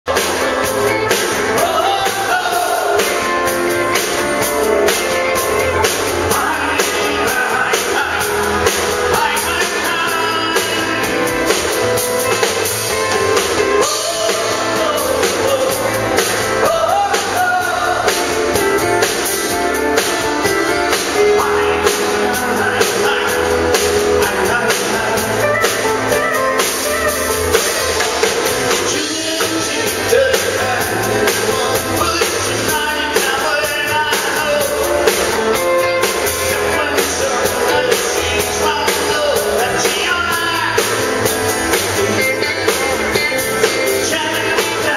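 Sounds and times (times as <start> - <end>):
country band playing: 0.0 - 44.9
man singing: 0.0 - 44.9.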